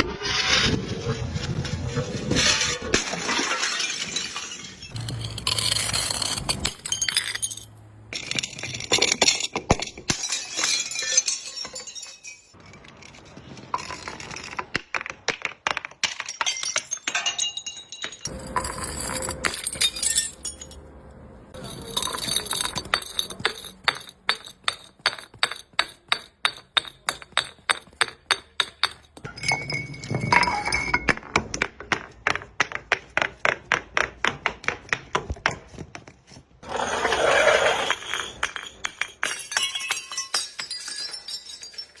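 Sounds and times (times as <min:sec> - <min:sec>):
glass bottle tumbling down stairs: 0:00.7 - 0:20.8, 0:21.6 - 0:42.0.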